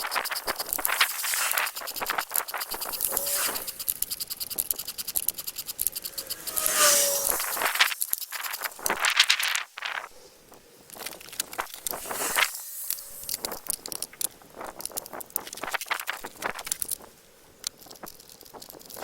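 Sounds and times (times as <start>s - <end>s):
clicking crackling and scraping: 0.0s - 10.1s, 10.9s - 19.0s.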